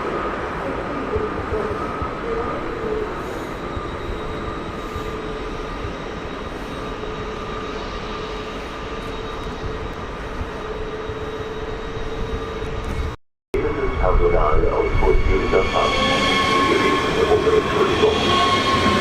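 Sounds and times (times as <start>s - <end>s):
electric train rumble: 0.0s - 19.0s
high-pitched train whine: 0.0s - 19.0s
train hum: 0.0s - 19.0s.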